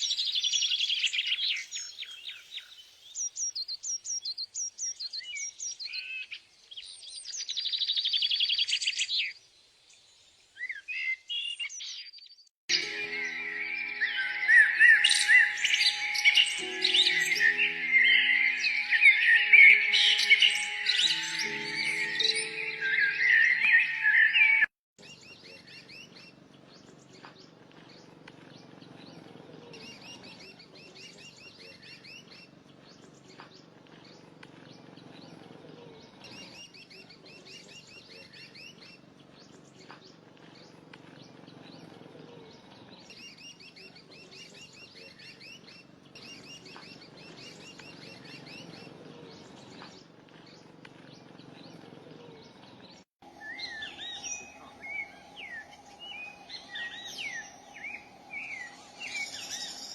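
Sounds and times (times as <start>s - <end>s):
songbird chirping: 0.0s - 35.4s, 36.1s - 59.9s.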